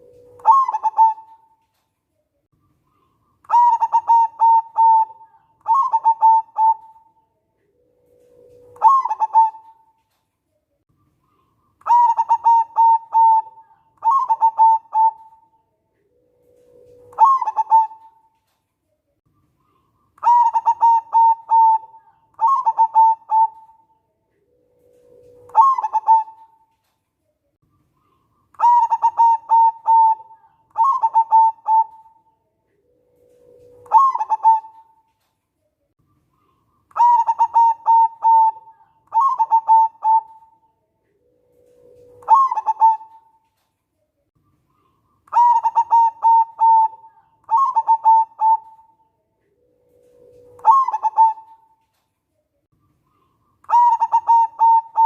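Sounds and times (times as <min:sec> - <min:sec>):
dove cooing: 0:00.0 - 0:01.7, 0:02.9 - 0:10.2, 0:11.3 - 0:18.5, 0:19.6 - 0:26.8, 0:28.0 - 0:35.2, 0:36.4 - 0:43.6, 0:44.8 - 0:52.0, 0:53.1 - 0:55.0.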